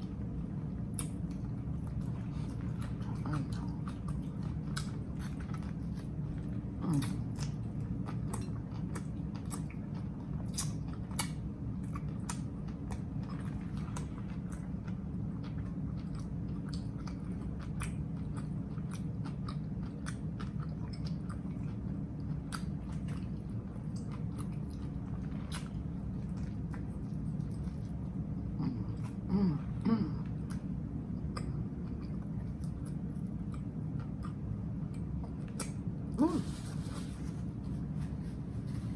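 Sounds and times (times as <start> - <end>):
low hum: 0.0 - 38.9
person chewing sandwich: 0.0 - 38.9.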